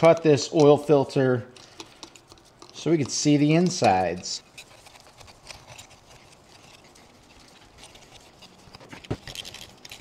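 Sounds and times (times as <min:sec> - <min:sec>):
oil filter cutter clicks and scrapes: 0:01.5 - 0:10.0.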